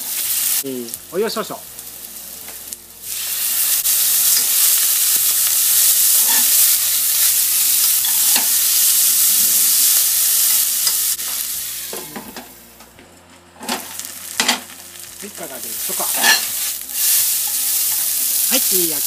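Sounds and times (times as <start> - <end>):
noodles sizzling in pan: 0.0 - 12.8, 13.6 - 19.0.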